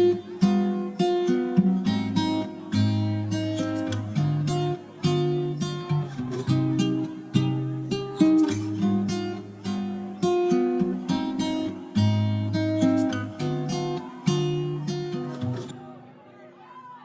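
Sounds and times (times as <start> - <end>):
acoustic guitar strumming and plucking: 0.0 - 15.8.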